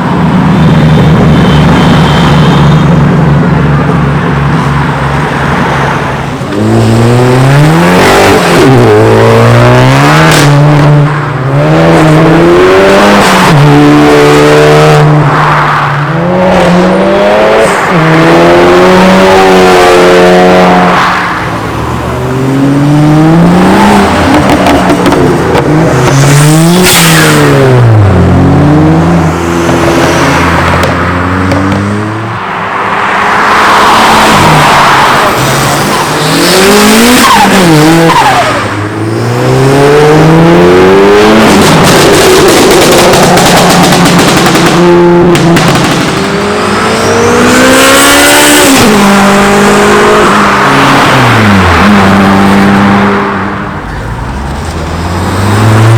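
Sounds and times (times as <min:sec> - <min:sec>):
car engines revving hard: 0:00.0 - 0:55.9.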